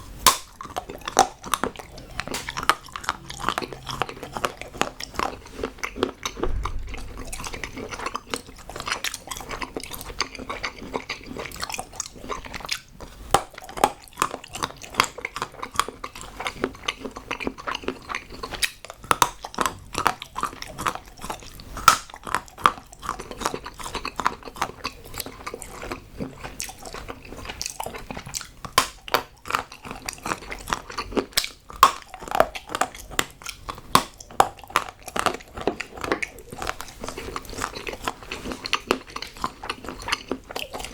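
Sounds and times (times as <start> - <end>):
chewing hard chocolate: 0.0 - 40.9.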